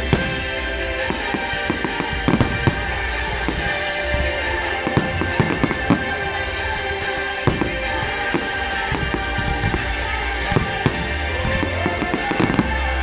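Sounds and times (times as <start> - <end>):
firework bursts and crackles: 0.0 - 13.0
music playing: 0.0 - 13.0.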